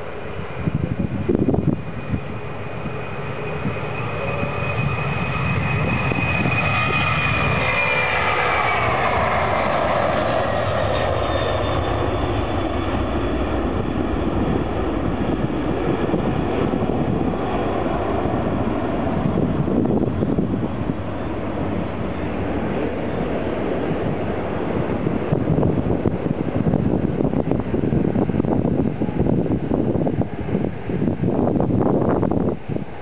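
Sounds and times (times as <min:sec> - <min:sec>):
jet engines at takeoff: 0:00.0 - 0:33.0.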